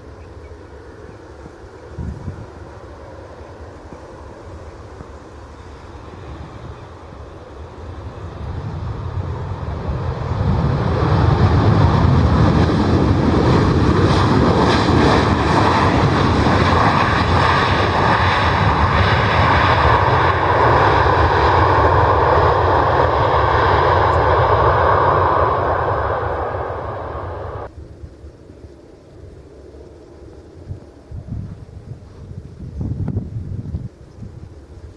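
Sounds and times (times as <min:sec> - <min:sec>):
airliner engines running: 0:00.0 - 0:34.9.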